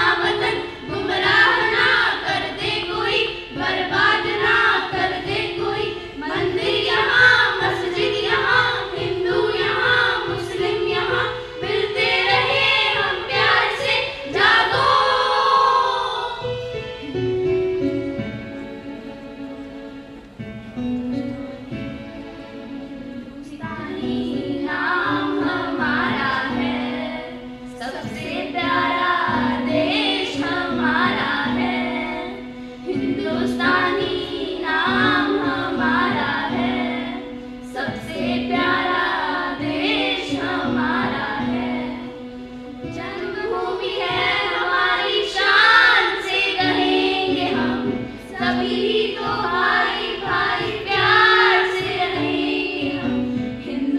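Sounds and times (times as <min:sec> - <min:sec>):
children singing together: 0:00.0 - 0:16.8, 0:21.9 - 0:53.9.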